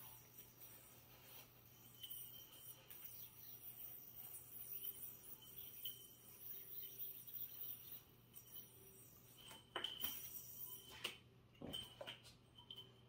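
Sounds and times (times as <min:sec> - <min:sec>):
spinning yoyo whirring: 0:00.0 - 0:13.0.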